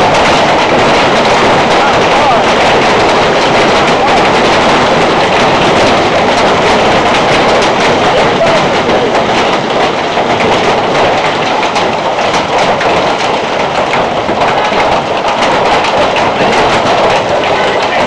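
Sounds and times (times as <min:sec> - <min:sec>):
hail clattering on hard surfaces: 0:00.0 - 0:18.0
rushing noise: 0:00.0 - 0:18.0.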